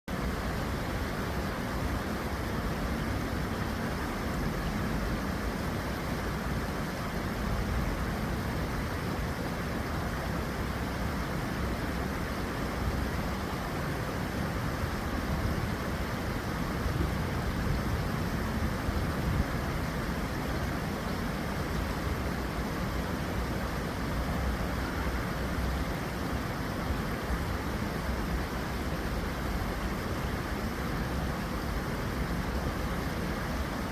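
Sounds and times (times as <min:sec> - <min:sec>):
water rushing in a stream: 0:00.1 - 0:33.9.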